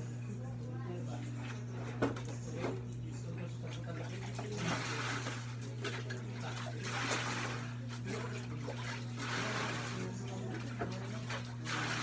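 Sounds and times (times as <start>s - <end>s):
steady low hum: 0.0s - 12.0s
water splashing in a plastic basin: 1.3s - 12.0s.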